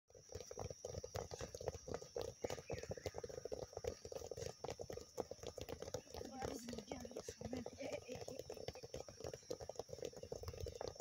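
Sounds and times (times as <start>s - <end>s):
feet tapping footballs on grass: 0.1s - 11.0s.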